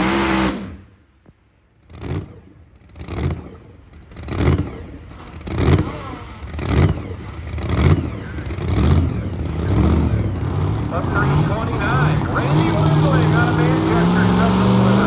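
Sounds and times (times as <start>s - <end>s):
engine revving in short blips: 0.0s - 0.9s, 1.8s - 15.0s.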